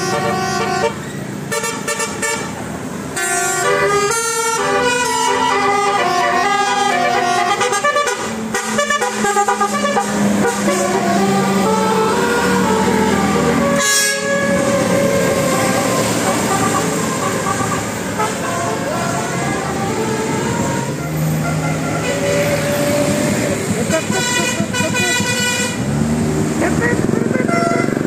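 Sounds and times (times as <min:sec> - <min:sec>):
vehicle horns tooting: 0:00.0 - 0:02.6, 0:03.2 - 0:26.0, 0:26.6 - 0:28.0
motor traffic running: 0:00.0 - 0:28.0.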